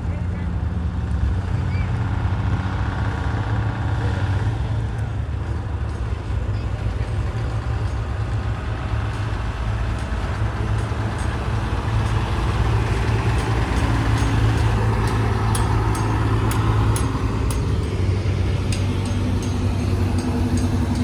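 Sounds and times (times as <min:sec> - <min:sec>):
car engine exhaust rumble: 0:00.0 - 0:21.0.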